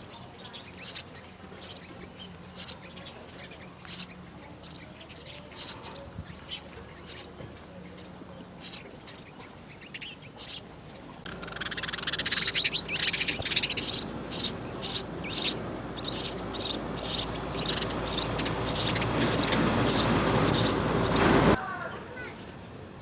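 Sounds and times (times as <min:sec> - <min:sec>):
sparrows chirping: 0:00.0 - 0:23.0.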